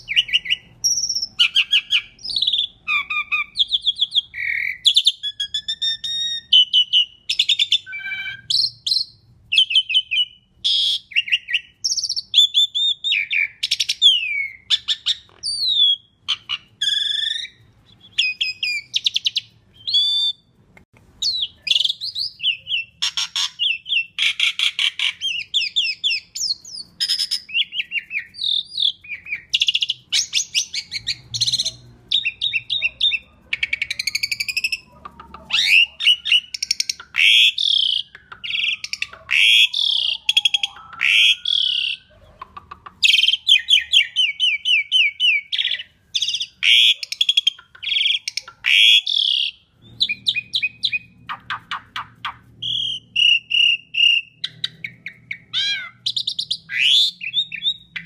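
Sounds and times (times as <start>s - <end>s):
starling singing: 0.0s - 20.5s, 21.2s - 58.0s.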